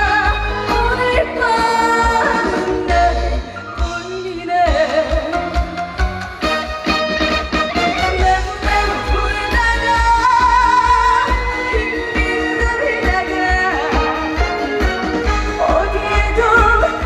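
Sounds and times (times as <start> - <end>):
woman singing with vibrato: 0.0 - 6.1, 7.9 - 17.0
band backing with steady beat: 0.0 - 17.0.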